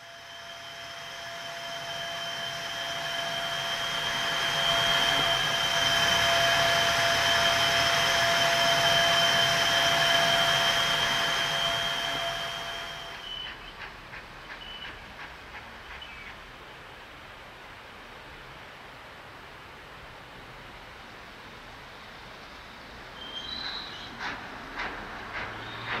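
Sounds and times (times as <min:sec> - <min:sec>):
steam locomotive venting steam: 0:00.0 - 0:18.6, 0:20.4 - 0:26.0.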